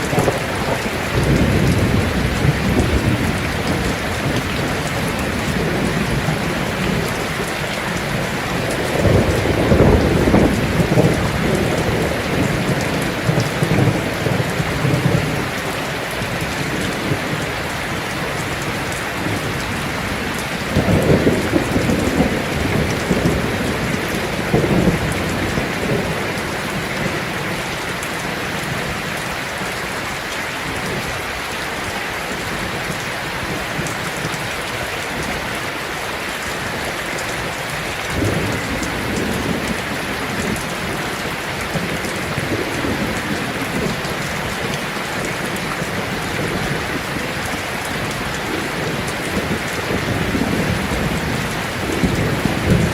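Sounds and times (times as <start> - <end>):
thunder rumbling: 0.0 - 29.2, 36.7 - 52.9
rain on a tin roof: 0.0 - 52.9.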